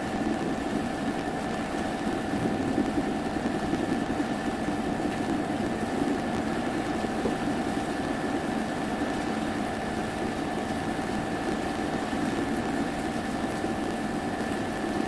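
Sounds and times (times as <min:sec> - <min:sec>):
mechanical hum with whining tones: 0:00.0 - 0:15.0.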